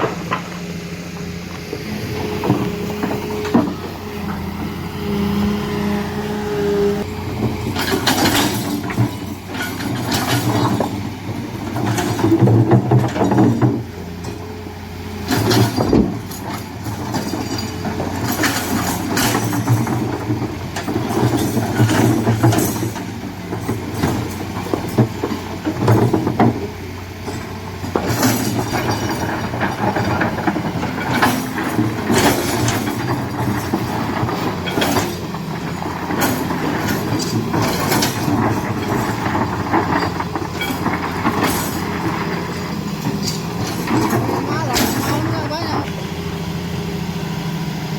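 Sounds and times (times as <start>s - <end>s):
metallic clanks and rattles: 0.0s - 4.5s, 7.4s - 14.5s, 15.2s - 46.2s
heavy diesel machinery running: 0.0s - 47.9s.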